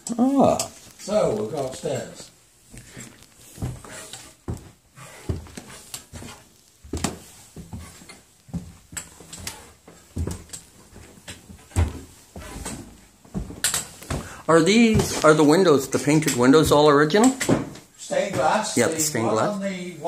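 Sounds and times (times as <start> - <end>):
footsteps on wooden stairs: 2.7 - 19.0.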